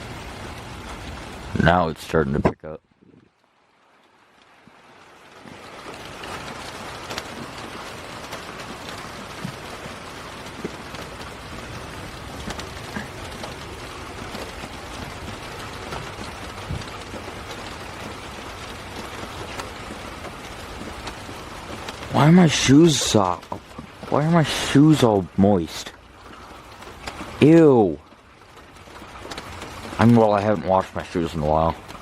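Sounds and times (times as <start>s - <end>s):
raindrops ticking on surfaces: 0.0s - 32.0s
steady rain falling: 0.0s - 32.0s.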